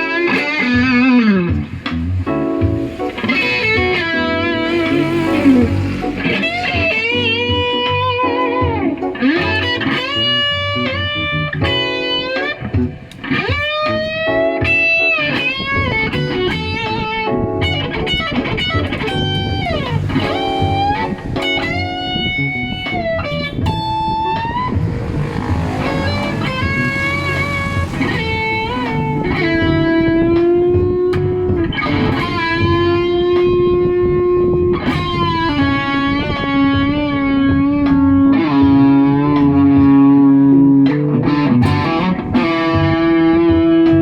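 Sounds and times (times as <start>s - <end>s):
electric guitar lead line: 0.0s - 44.0s
lower guitar accompaniment: 0.0s - 44.0s.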